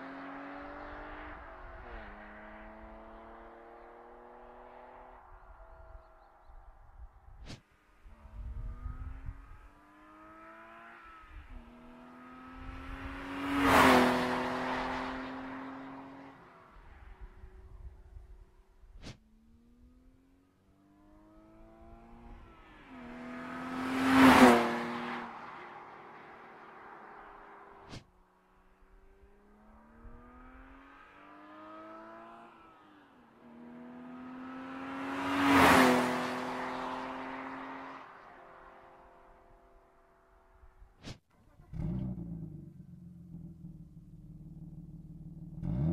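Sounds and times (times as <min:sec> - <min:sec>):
car accelerating and passing: 0:00.0 - 0:45.9.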